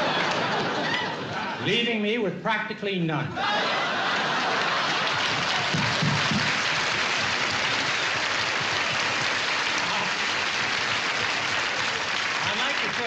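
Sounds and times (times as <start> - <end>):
audience applauding: 0.0 - 1.5, 3.4 - 13.0.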